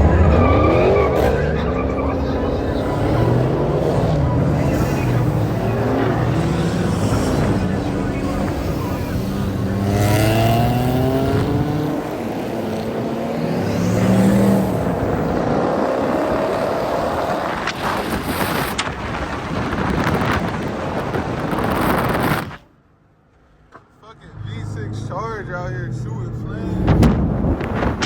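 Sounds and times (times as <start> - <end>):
car engine accelerating: 0.0 - 22.6, 24.0 - 28.0
road noise: 0.0 - 28.0.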